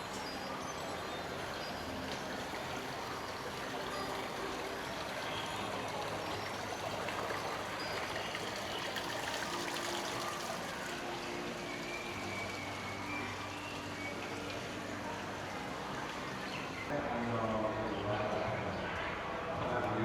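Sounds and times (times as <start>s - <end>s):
running water: 0.0s - 16.9s.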